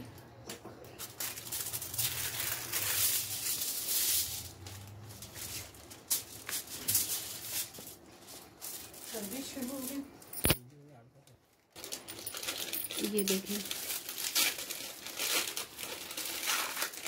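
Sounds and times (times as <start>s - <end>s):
aluminium foil rustling: 0.0s - 10.6s, 11.4s - 17.0s.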